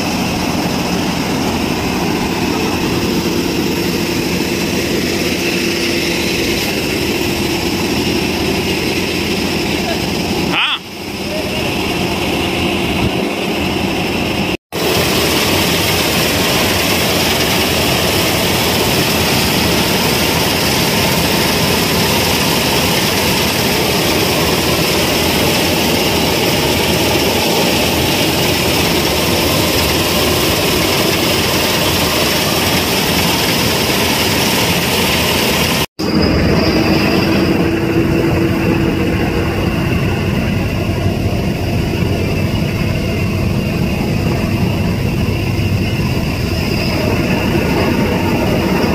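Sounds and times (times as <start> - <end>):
combine harvester droning: 0.0 - 48.9.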